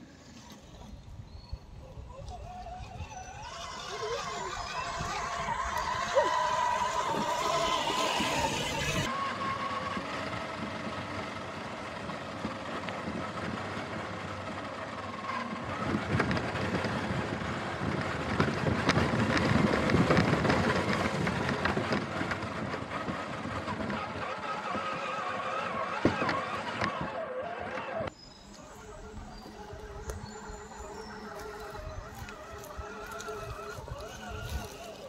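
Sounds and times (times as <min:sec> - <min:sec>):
rc truck motor and gear whine: 0:00.0 - 0:35.0.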